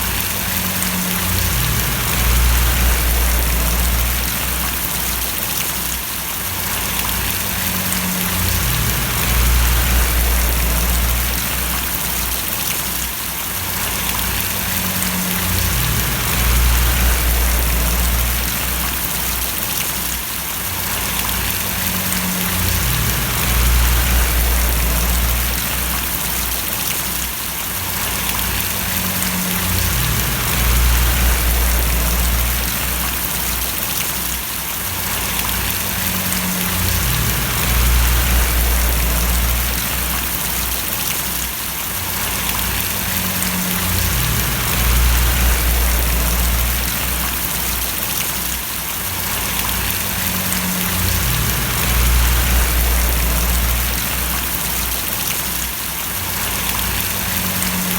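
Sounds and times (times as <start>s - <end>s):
low rumble: 0.0s - 5.4s, 6.9s - 12.7s, 13.8s - 19.6s, 21.0s - 26.9s, 27.9s - 33.8s, 35.2s - 41.1s, 42.2s - 48.1s, 49.4s - 55.3s
rain splashing: 0.0s - 57.9s.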